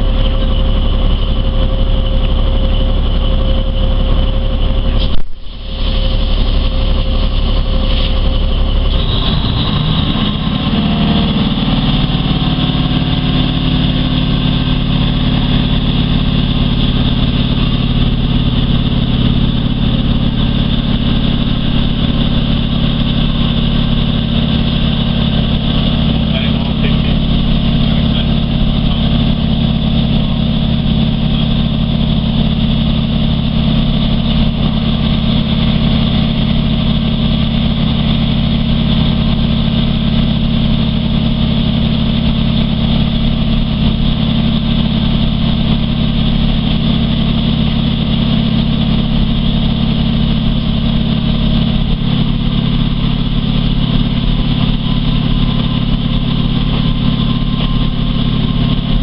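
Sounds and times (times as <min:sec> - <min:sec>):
diesel railcar engine running: 0:00.0 - 0:59.0.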